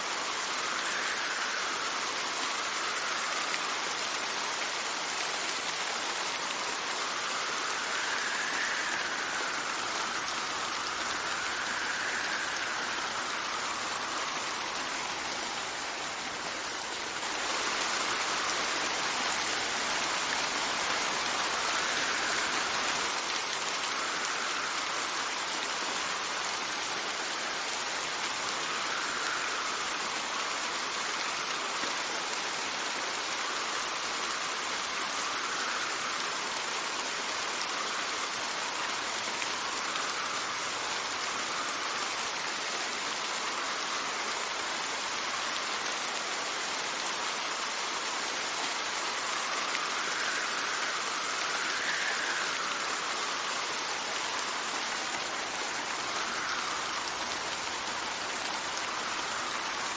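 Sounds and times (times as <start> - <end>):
steady rain falling: 0.0 - 59.9
wind: 0.0 - 59.9.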